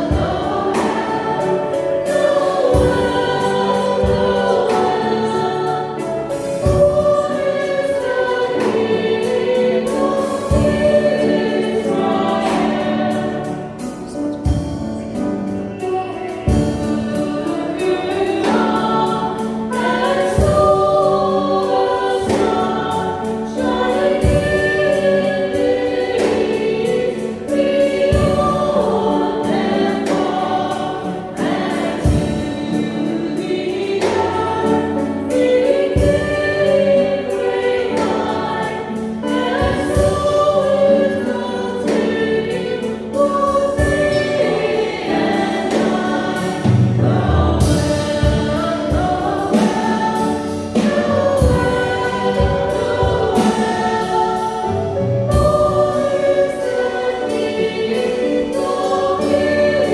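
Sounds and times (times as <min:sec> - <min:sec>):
women singing worship song: 0:00.0 - 0:14.6, 0:15.8 - 0:59.9
low musical accompaniment: 0:00.0 - 0:59.9.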